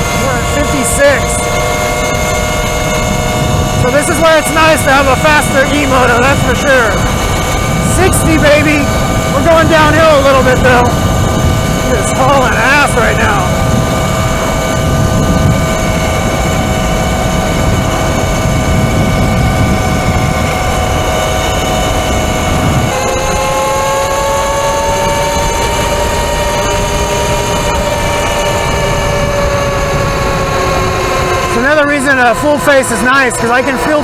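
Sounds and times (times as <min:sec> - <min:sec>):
electric motor whine: 0:00.0 - 0:34.0
wind rushing: 0:00.0 - 0:34.0.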